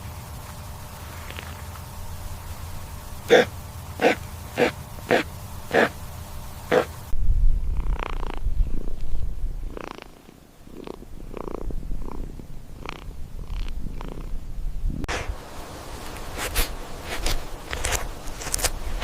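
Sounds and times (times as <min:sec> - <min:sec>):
animal purring rumble: 0:00.0 - 0:19.0.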